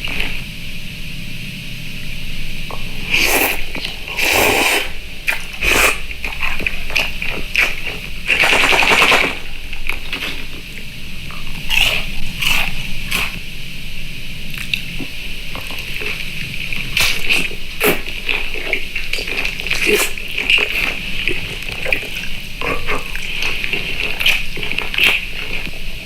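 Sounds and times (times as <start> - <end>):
crunching and chewing: 2.7 - 13.6, 14.4 - 26.0.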